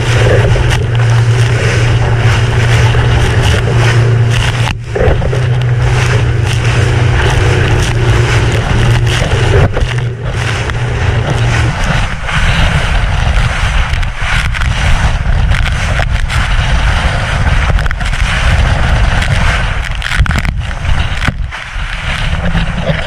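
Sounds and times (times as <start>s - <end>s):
outboard engine drone: 0.0s - 23.0s
water rushing along boat hull: 0.0s - 23.0s
waves knocking against hull: 0.0s - 23.0s
wind buffeting microphone: 0.0s - 23.0s.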